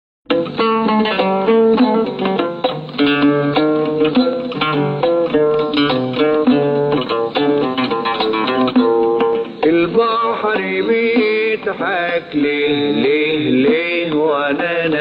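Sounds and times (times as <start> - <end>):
oud plucked melody: 0.3 - 15.0.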